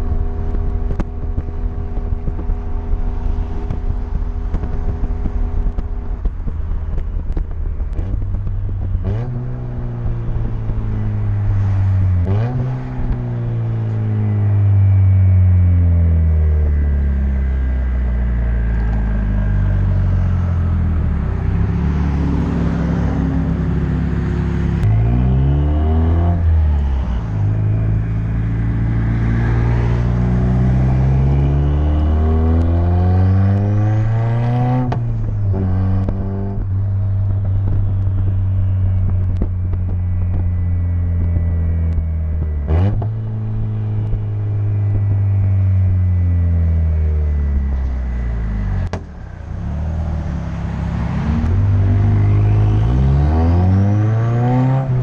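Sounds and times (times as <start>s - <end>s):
turbocharged car engine revving: 7.4s - 55.0s.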